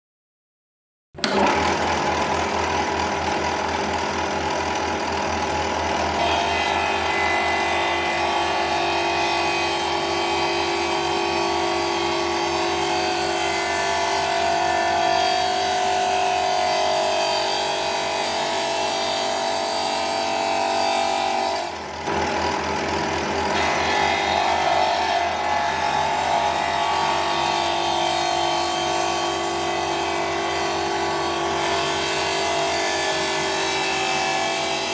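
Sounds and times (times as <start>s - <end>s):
electric sander grinding: 1.2s - 34.9s.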